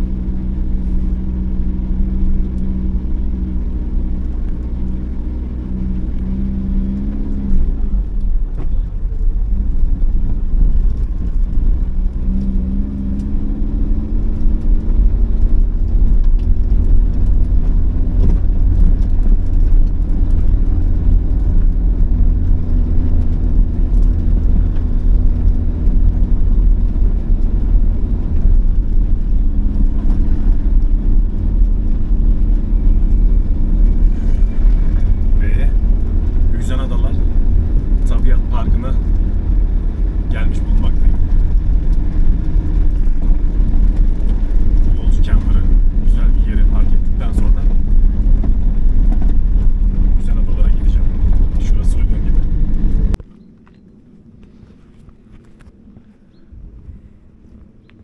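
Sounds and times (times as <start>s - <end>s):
low road rumble: 0.0s - 58.0s
vehicle engine: 0.0s - 58.0s.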